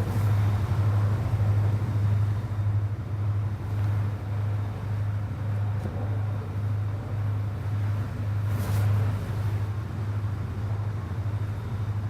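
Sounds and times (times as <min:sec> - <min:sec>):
wind and water hiss: 0:00.0 - 0:12.0.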